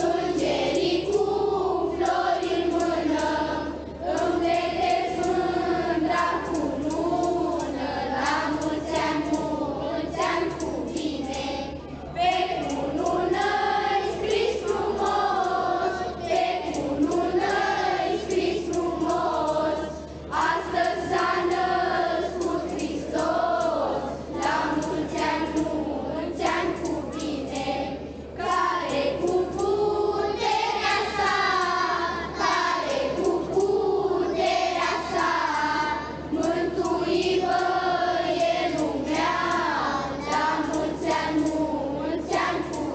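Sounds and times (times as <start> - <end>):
children's choir singing: 0.0 - 42.9
steady low hum: 0.0 - 42.9.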